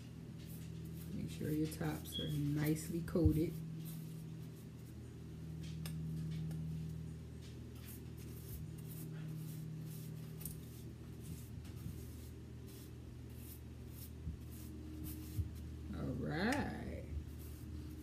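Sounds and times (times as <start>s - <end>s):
pastry brush strokes: 0.0s - 5.2s, 6.1s - 18.0s
steady low hum: 0.0s - 18.0s.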